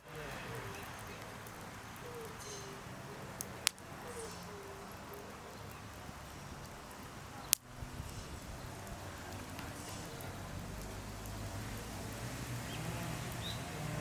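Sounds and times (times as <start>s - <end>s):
burning wood popping: 0.0s - 14.0s.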